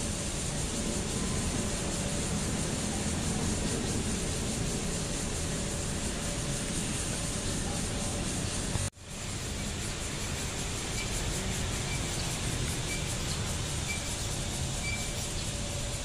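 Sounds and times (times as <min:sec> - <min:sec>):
rushing outdoor noise: 0:00.0 - 0:16.0.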